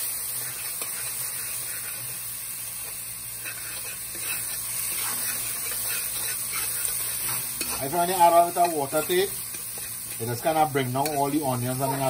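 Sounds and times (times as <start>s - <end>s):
vegetables sizzling in oil: 0.0s - 12.0s
spatula scraping pan: 0.1s - 12.0s.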